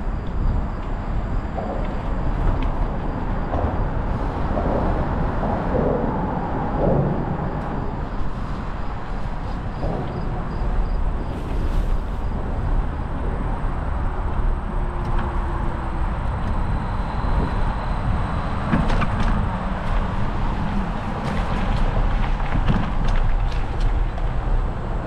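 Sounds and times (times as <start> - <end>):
bike tyres rolling on pavement: 0.0 - 25.0
wind rush on microphone: 0.0 - 25.0.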